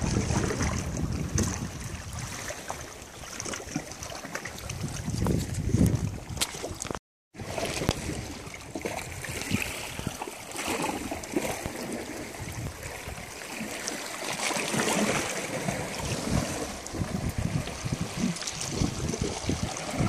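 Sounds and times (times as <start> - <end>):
sea water washing over rocks: 0.0 - 20.0
wind on microphone: 0.0 - 20.0.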